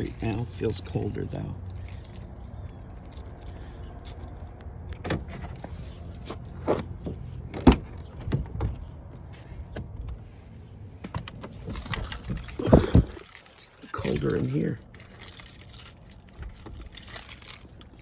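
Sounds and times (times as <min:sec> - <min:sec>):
car keys jangling: 0:00.0 - 0:10.2, 0:11.2 - 0:18.0.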